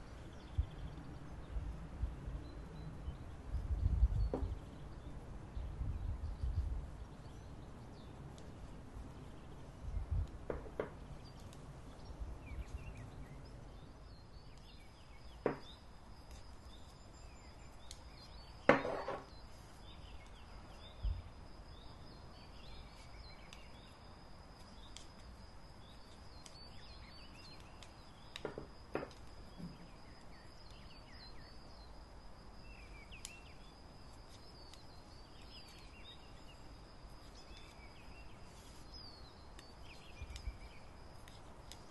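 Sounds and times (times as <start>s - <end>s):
birds singing: 0.0s - 41.9s.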